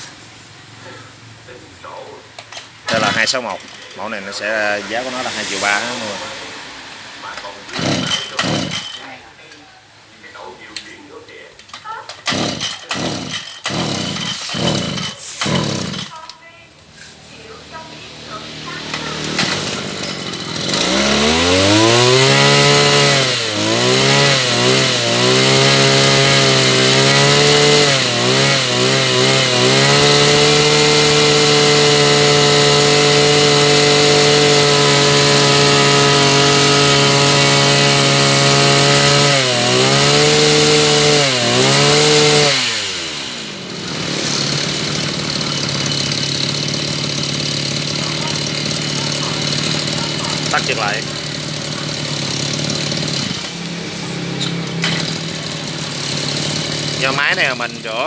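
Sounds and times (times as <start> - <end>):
brush cutter engine revving: 1.9 - 9.3, 11.6 - 58.0.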